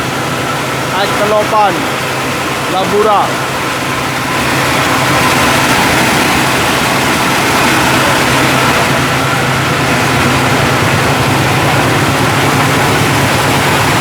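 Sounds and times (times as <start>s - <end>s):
grinding machine motor humming: 0.0s - 14.0s.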